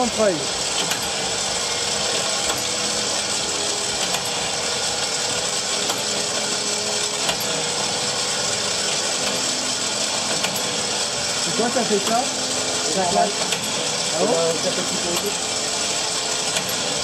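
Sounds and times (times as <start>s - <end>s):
electric winch humming: 0.0s - 17.0s.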